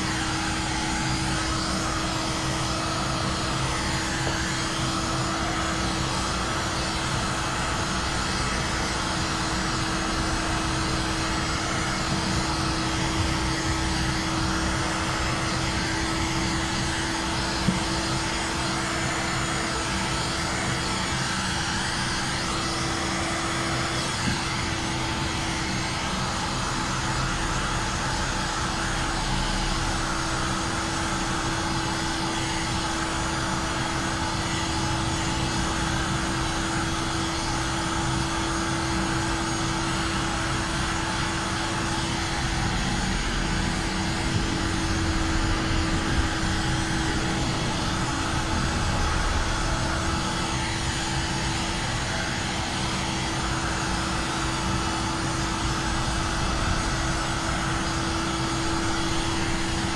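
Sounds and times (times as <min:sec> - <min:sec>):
heat gun blowing: 0:00.0 - 0:59.9.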